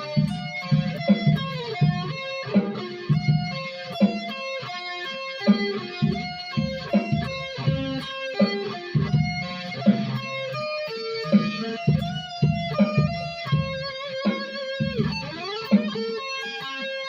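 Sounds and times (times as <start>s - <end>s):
electric guitar riff: 0.0s - 17.0s.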